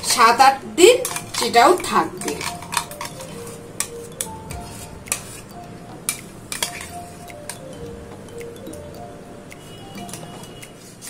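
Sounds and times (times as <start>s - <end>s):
utensils clinking against jar and bowl: 0.0s - 11.0s.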